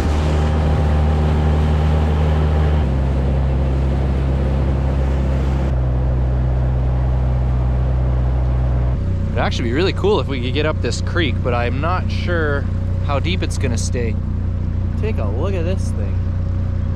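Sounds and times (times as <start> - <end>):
outboard motor droning: 0.0 - 16.9
water and hull noise: 0.0 - 16.9.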